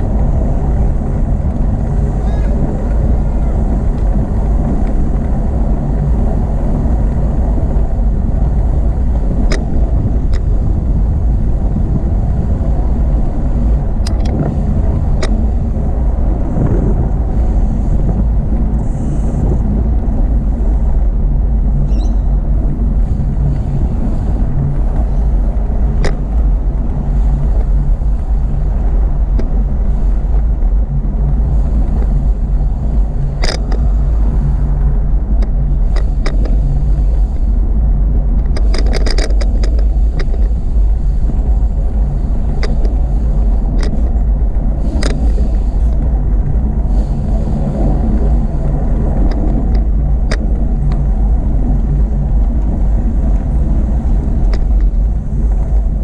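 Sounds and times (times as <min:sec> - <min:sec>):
sharp clicks from bumps: 0:00.0 - 0:17.2, 0:19.9 - 0:47.2, 0:47.8 - 0:56.0
wind and road noise: 0:00.0 - 0:56.0.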